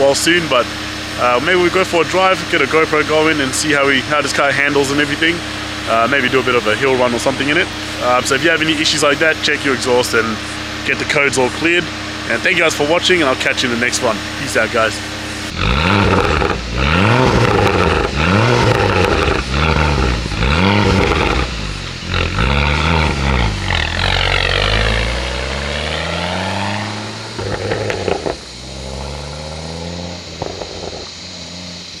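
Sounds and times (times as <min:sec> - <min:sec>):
car engine revving: 0:00.0 - 0:32.0
exhaust crackles: 0:00.0 - 0:32.0.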